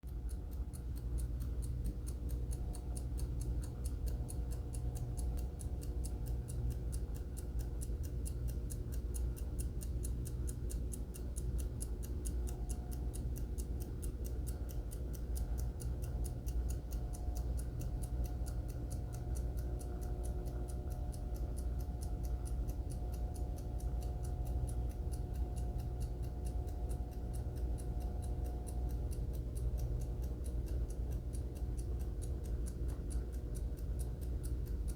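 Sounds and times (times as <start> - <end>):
steady low hum: 0.0 - 34.9
alarm clock ticking: 0.1 - 34.9.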